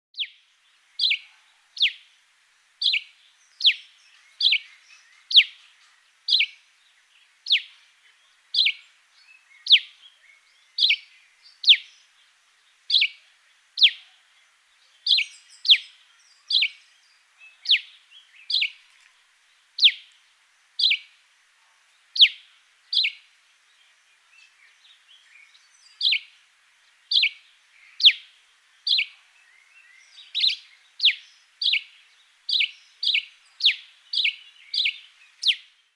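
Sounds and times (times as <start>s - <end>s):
sparrow chirping: 0.2s - 0.4s, 1.0s - 2.1s, 2.8s - 18.8s, 19.7s - 20.1s, 20.8s - 21.2s, 22.1s - 23.3s, 24.2s - 35.9s.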